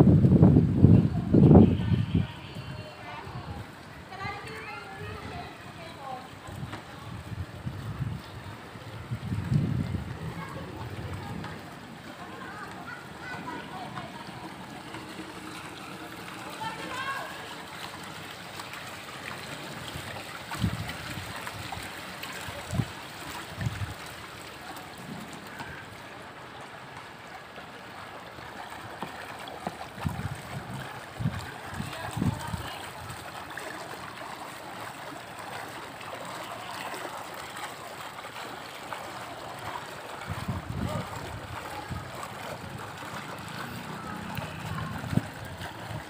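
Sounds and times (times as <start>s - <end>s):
pool water flowing into gutter: 0.0s - 46.0s.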